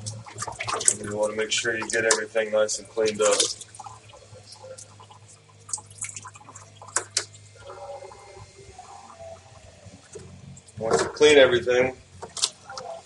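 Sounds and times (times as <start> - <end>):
sponge scrubbing plastic bucket: 0.0 - 13.0
water sloshing and dripping: 0.0 - 13.0
water splashes: 0.0 - 13.0.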